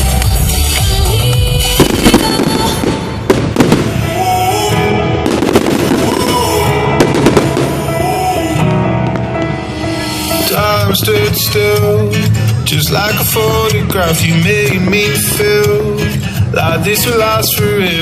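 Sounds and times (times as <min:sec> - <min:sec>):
loud pop music: 0:00.0 - 0:18.0
fireworks banging and crackling: 0:00.1 - 0:11.8, 0:12.8 - 0:18.0.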